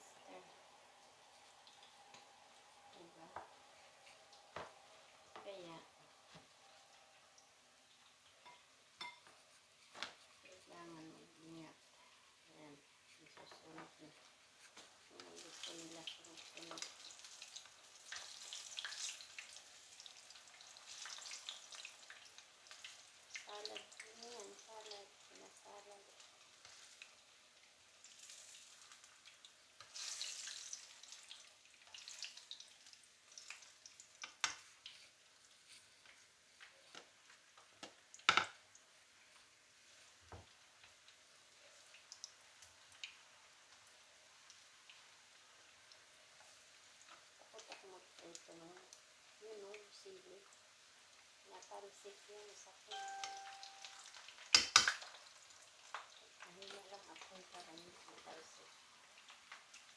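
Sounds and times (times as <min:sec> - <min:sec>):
eggplant sizzling in hot oil: 0:00.0 - 0:59.9.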